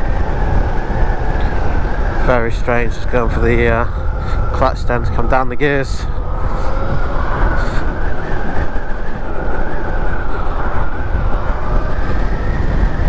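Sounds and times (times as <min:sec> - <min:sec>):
road rumble: 0:00.0 - 0:13.0
rushing wind: 0:00.0 - 0:13.0.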